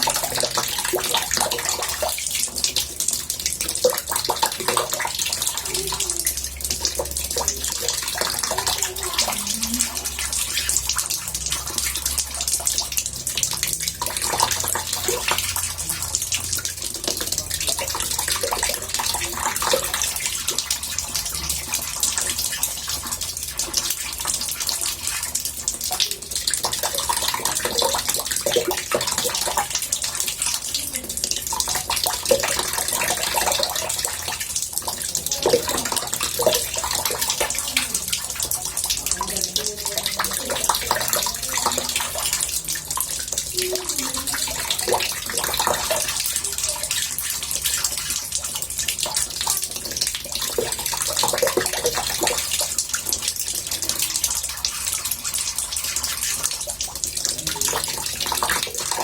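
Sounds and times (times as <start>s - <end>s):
tap water running into bathtub: 0.0s - 59.0s.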